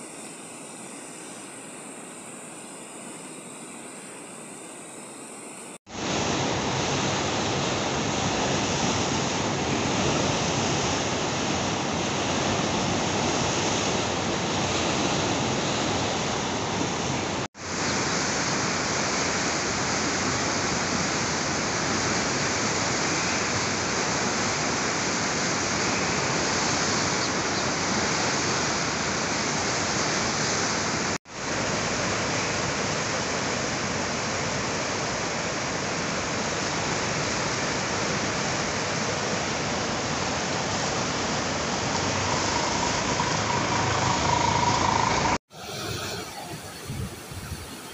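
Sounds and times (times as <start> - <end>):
river rushing: 0.0 - 47.9.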